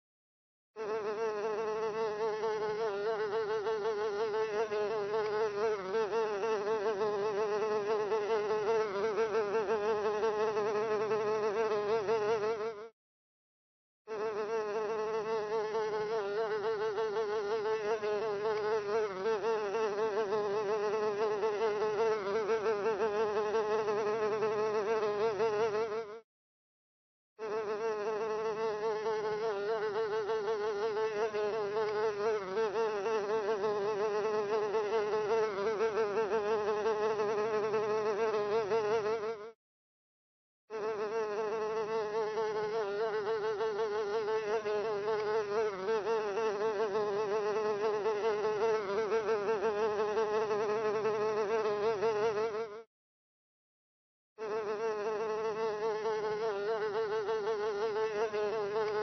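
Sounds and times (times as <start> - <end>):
fly buzzing: 0.8 - 13.0, 14.1 - 26.3, 27.4 - 39.6, 40.7 - 52.9, 54.4 - 59.0.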